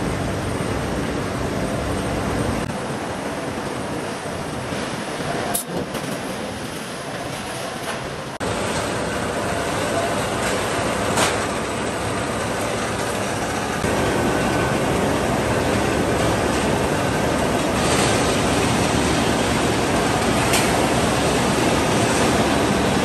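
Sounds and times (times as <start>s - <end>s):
rolling mill running: 0.0s - 23.0s.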